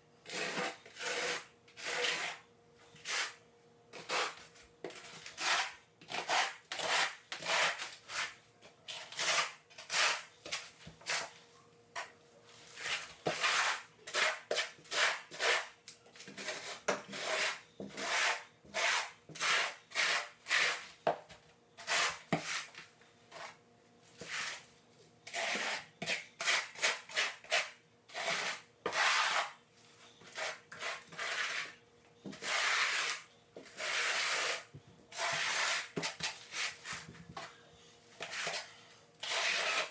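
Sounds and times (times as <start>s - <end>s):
trowel scraping mortar: 0.2s - 2.4s, 4.0s - 11.4s, 12.0s - 20.9s, 21.8s - 23.6s, 24.2s - 24.7s, 25.3s - 29.6s, 30.2s - 37.1s, 38.2s - 38.6s, 39.2s - 39.9s.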